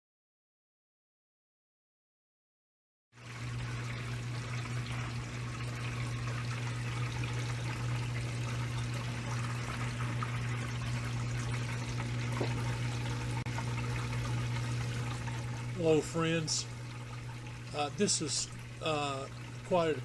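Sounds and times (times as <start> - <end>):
water pouring: 3.2 - 20.0.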